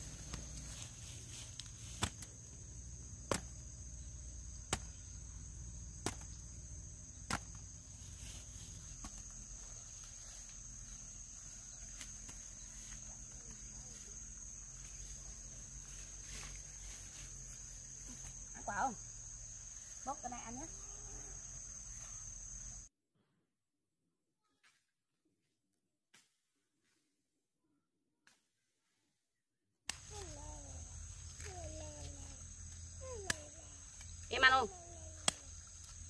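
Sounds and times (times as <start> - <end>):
insects chirring: 0.0 - 22.9, 29.9 - 36.0.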